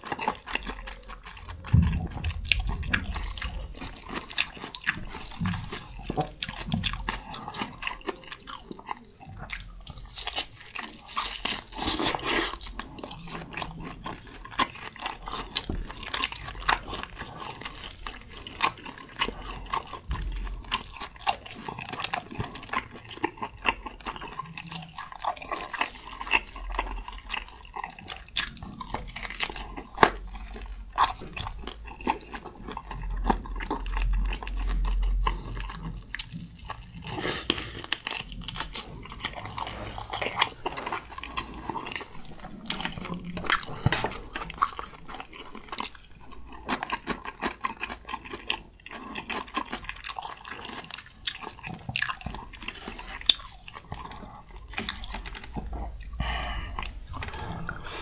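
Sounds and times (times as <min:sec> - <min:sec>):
person chewing steak: 0:00.0 - 0:58.0.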